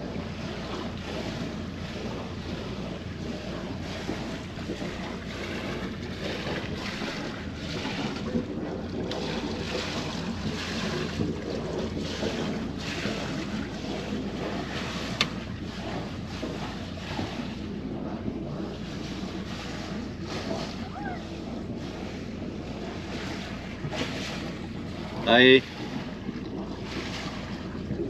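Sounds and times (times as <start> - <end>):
boat engine rumble: 0.0 - 28.0
water washing along hull: 0.0 - 28.0
wind buffeting microphone: 0.0 - 28.0.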